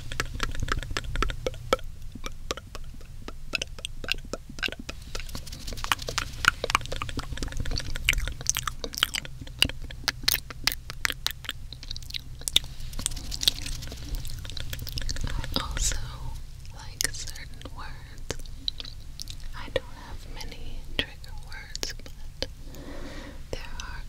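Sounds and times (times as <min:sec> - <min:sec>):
tongue clicks and lip smacks: 0:00.0 - 0:19.6, 0:21.0 - 0:22.8.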